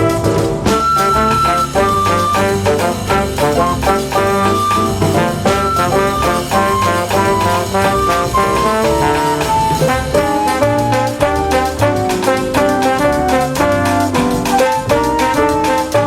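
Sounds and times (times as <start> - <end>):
brass instrumental music: 0.0 - 16.0.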